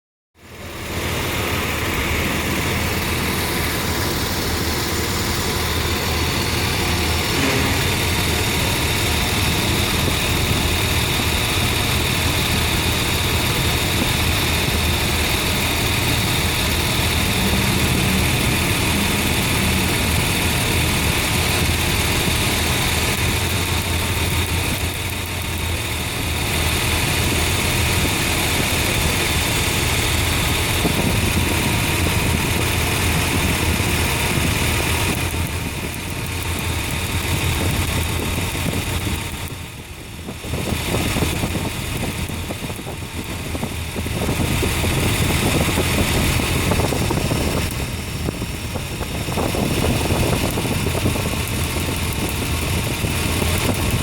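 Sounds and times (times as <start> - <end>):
car engine idling with misfire: 0.4 - 54.0.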